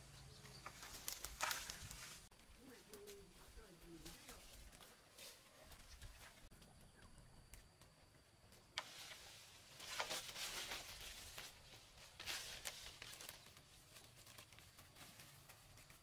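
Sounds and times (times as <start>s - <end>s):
leaves crackling and rustling: 0.0s - 6.5s, 8.5s - 16.0s.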